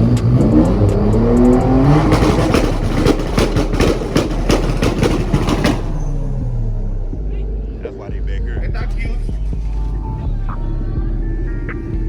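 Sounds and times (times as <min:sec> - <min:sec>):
car engine revving: 0:00.0 - 0:12.0
exhaust cracking and popping: 0:00.0 - 0:12.0.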